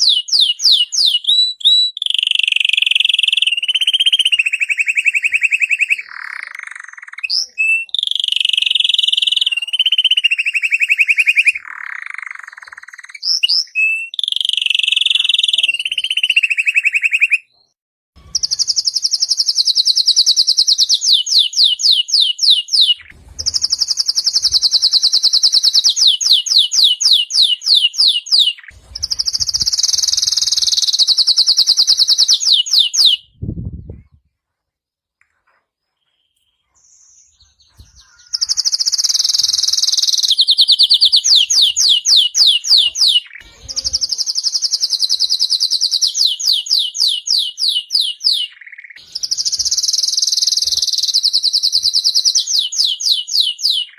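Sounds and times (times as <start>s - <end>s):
canary singing trills: 0.0s - 34.2s, 35.2s - 53.9s.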